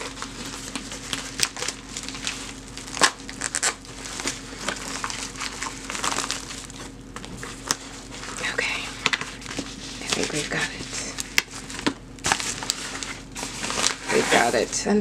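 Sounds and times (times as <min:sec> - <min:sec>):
plastic bubble mailer crinkling: 0:00.0 - 0:15.0.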